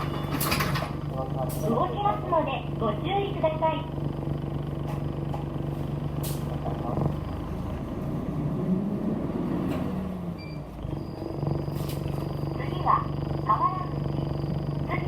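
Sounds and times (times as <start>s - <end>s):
bus engine hum: 0.0s - 15.0s.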